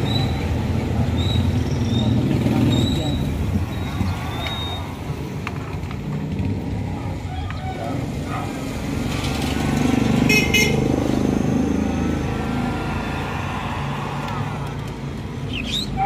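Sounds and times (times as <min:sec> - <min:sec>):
vehicle engine: 0:00.0 - 0:16.0.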